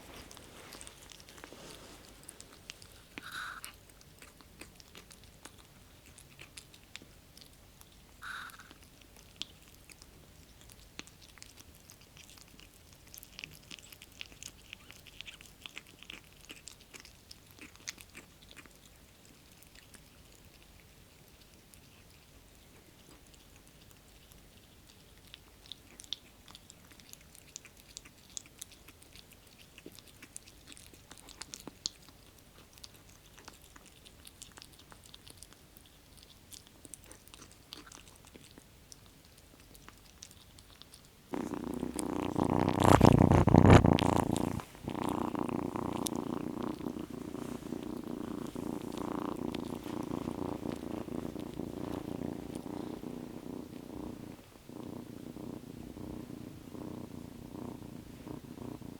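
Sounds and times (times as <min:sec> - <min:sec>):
kitten chewing wet food: 0:00.0 - 0:58.9
kitten purring: 0:00.0 - 0:58.9.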